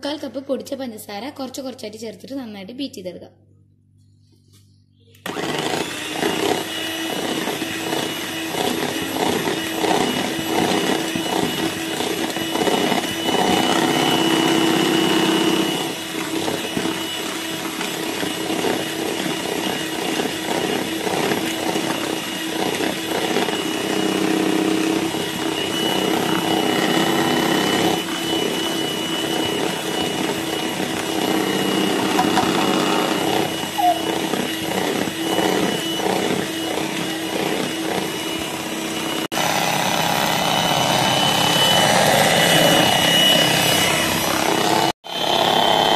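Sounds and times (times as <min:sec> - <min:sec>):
electric hand mixer whining: 0:05.2 - 0:45.9.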